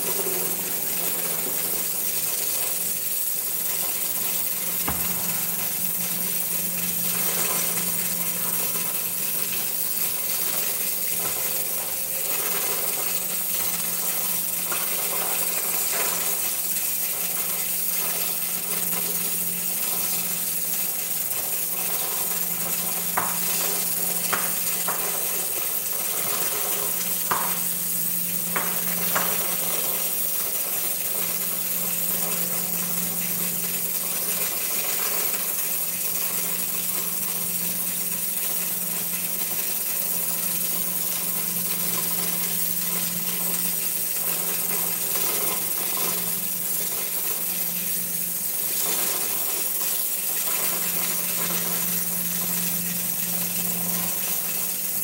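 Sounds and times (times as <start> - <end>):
pressure cooker hissing: 0.0 - 55.0.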